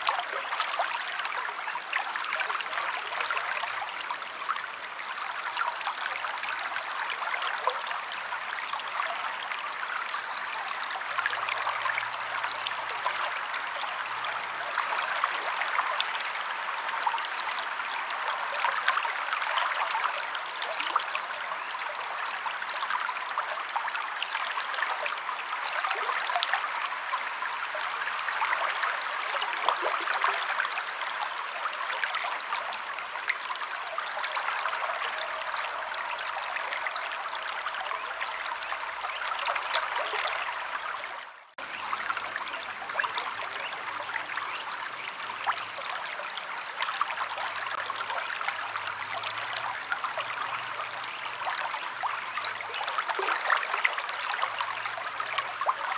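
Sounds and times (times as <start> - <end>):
river water flowing over rocks: 0.0 - 55.9.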